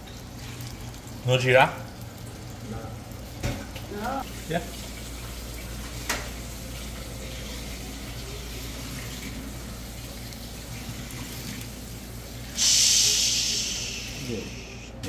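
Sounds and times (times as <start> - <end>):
hot oil sizzling: 0.0 - 14.9.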